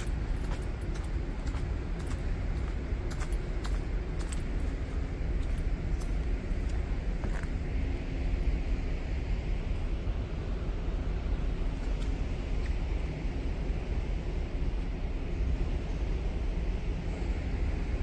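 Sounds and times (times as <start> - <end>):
low rumble: 0.0 - 16.8.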